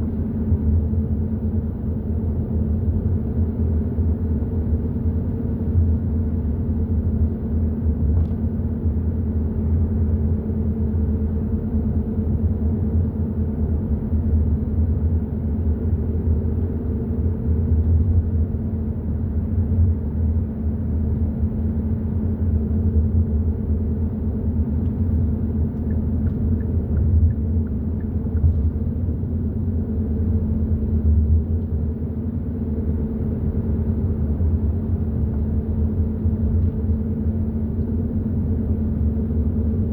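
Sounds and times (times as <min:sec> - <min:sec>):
car driving road rumble: 0:00.0 - 0:39.9.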